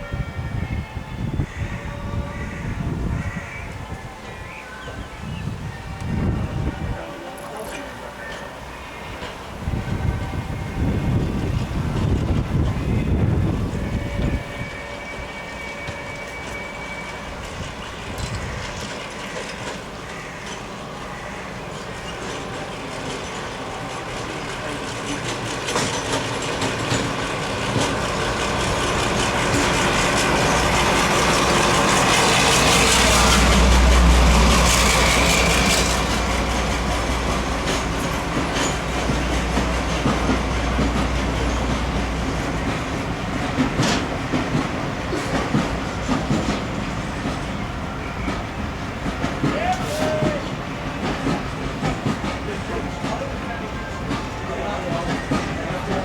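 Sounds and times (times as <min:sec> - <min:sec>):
train passing with deep rumble: 0:00.0 - 0:56.0.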